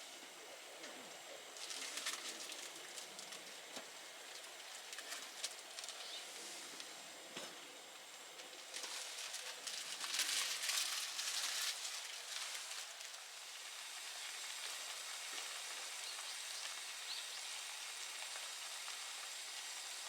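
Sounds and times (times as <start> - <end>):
fire hissing: 0.0 - 20.0
wood fire crackling and popping: 0.8 - 19.7.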